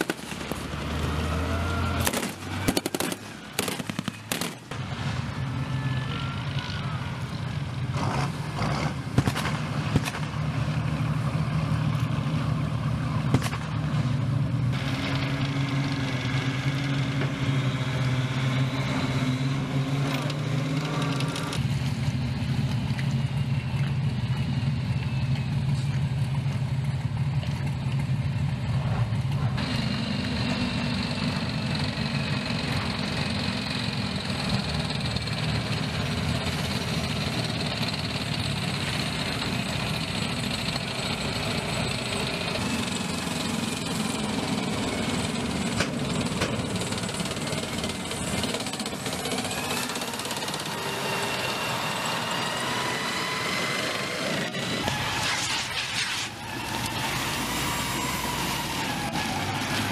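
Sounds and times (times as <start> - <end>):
heavy vehicle engines running: 0.0 - 59.9
tank driving over bridge: 0.0 - 59.9.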